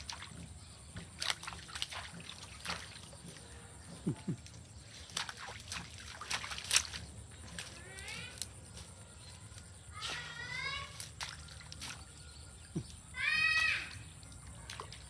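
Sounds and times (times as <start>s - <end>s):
dog splashing in puddle: 0.0s - 15.0s.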